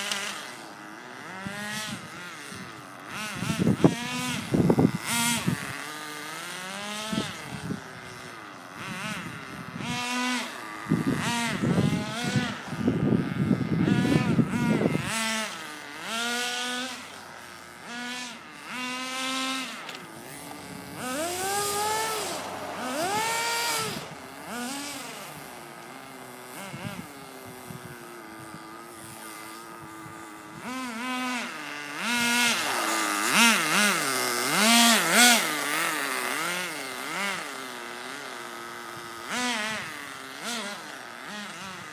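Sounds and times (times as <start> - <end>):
small rc car engine buzzing: 0.0 - 41.9.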